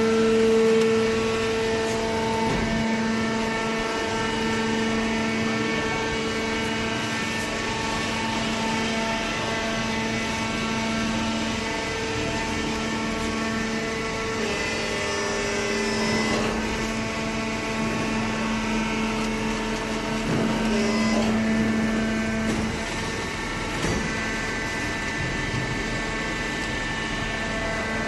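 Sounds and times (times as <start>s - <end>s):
baler machine drone: 0.0s - 28.0s.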